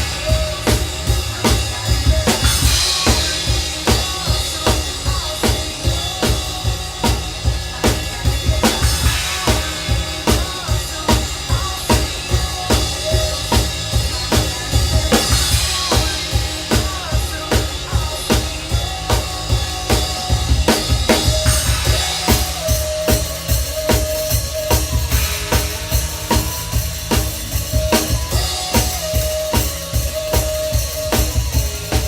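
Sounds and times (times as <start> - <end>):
drum kit playing a beat: 0.0 - 32.0.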